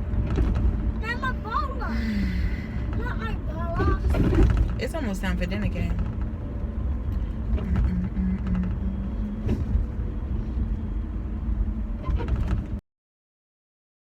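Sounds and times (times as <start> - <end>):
car engine and road rumble: 0.0 - 12.8.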